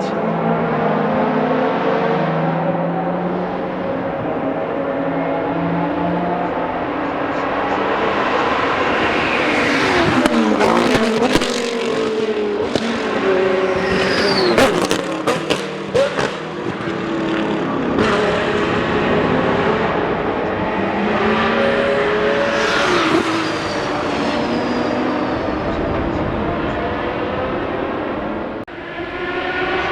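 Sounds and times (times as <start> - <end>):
racing cars passing at speed: 0.0 - 29.9.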